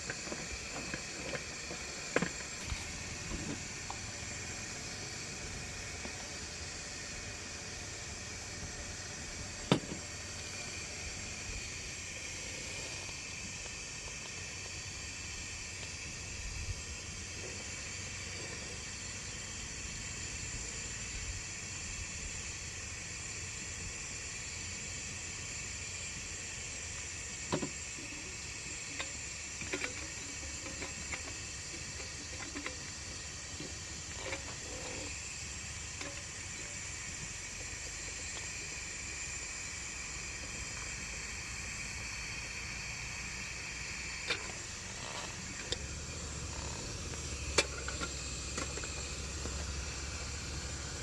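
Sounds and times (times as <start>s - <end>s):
gas stove hissing: 0.0s - 51.0s.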